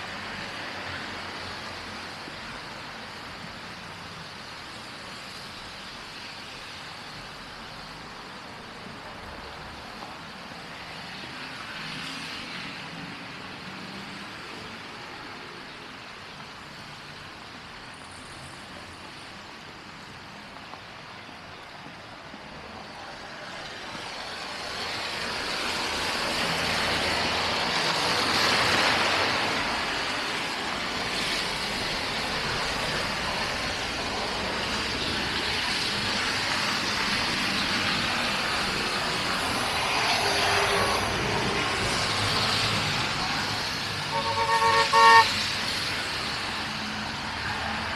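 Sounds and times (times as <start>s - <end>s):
vehicles passing with tyre hiss: 0.0s - 47.9s.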